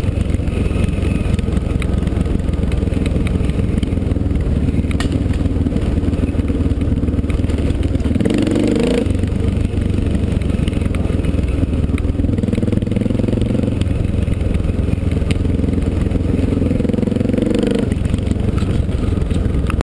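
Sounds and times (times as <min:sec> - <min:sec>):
dirt bike engine revving: 0:00.0 - 0:19.3.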